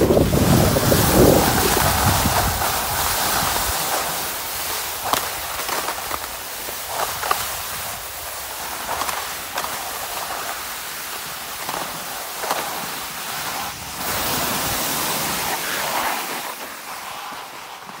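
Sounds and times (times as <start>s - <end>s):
skis hissing and scraping on snow: 0.0s - 18.0s.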